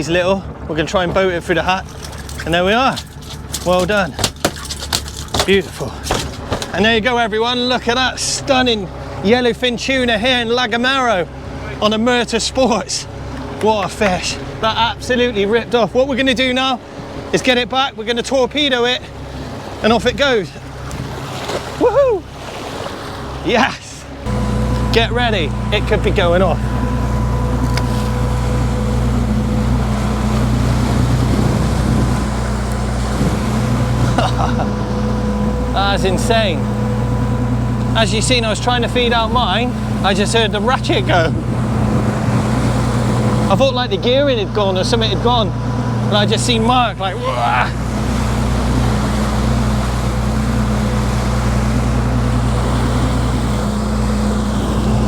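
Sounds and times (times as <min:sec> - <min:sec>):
boat engine droning: 0:00.0 - 0:55.0
sea noise: 0:00.0 - 0:55.0
water rushing: 0:00.0 - 0:55.0
wind: 0:00.0 - 0:55.0.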